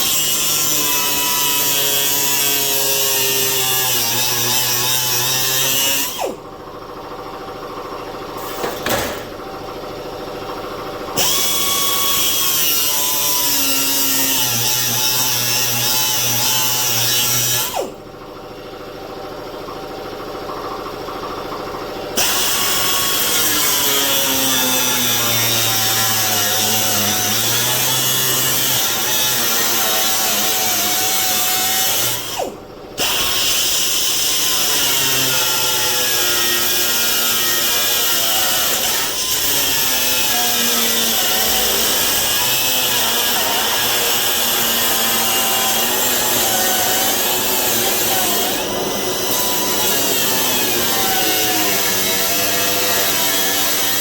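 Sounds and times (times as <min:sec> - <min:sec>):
power tool cutting sheet metal: 0:00.0 - 0:06.4, 0:08.4 - 0:09.4, 0:11.1 - 0:18.0, 0:22.2 - 0:54.0.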